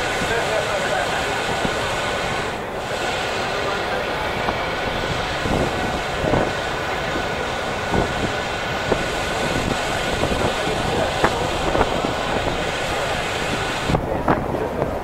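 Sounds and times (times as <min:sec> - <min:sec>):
city din: 0:00.0 - 0:15.0
people talking: 0:00.0 - 0:15.0.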